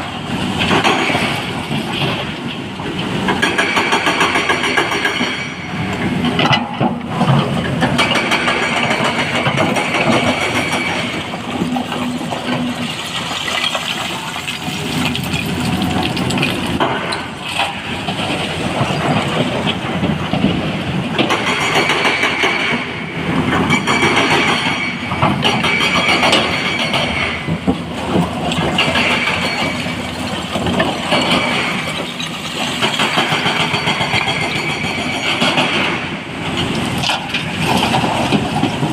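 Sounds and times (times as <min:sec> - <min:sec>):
excavator diesel engine working: 0:00.0 - 0:38.9.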